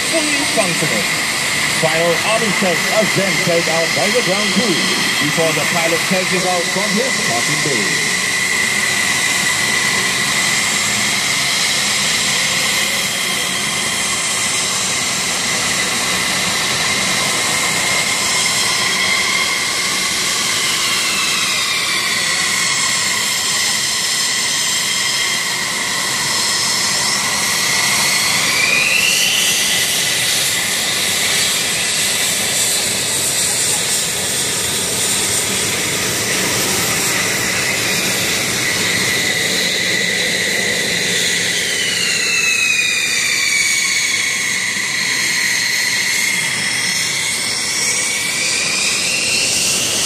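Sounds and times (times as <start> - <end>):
jet engines whining: 0.0 - 50.0.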